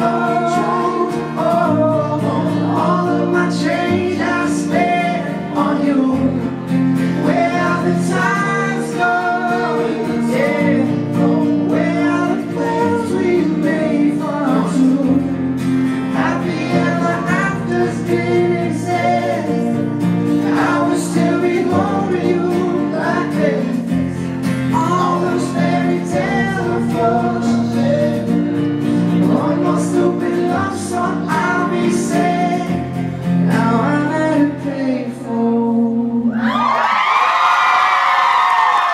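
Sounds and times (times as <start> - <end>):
person singing: 0.0 - 15.4, 16.1 - 36.7
acoustic guitar: 0.0 - 38.9.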